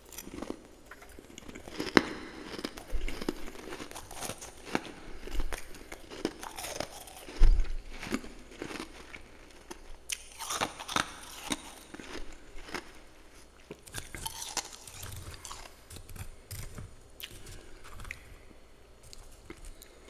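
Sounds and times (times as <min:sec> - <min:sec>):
frost being chewed crunching: 0:00.0 - 0:20.0.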